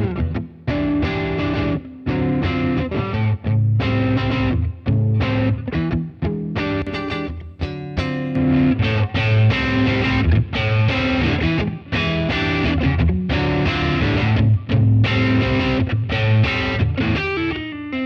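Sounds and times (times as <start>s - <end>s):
overdriven electric guitar: 0.0s - 18.0s.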